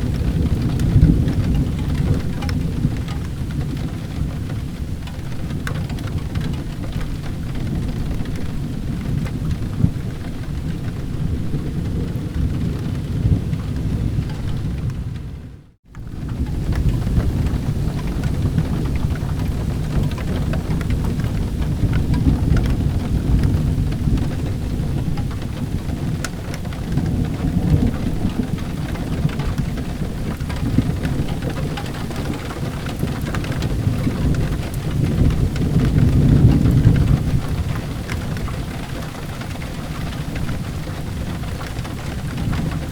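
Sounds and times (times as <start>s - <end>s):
low rolling thunder: 0.0s - 42.9s
steady rain: 0.0s - 42.9s.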